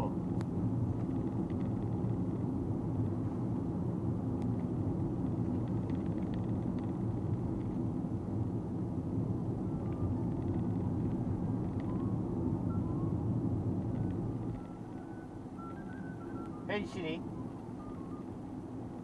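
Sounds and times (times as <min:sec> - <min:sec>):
road and tyre rumble: 0:00.0 - 0:19.0.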